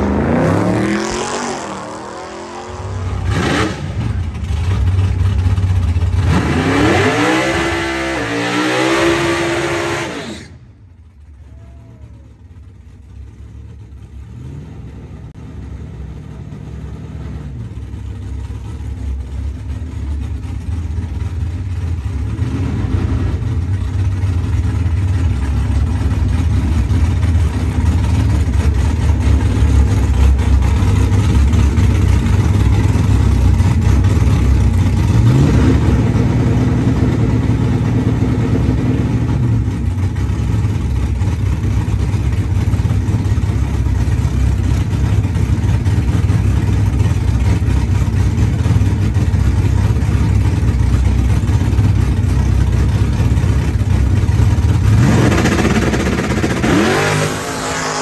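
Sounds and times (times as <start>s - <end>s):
car engine idling loudly: 2.6s - 6.5s, 10.5s - 58.0s.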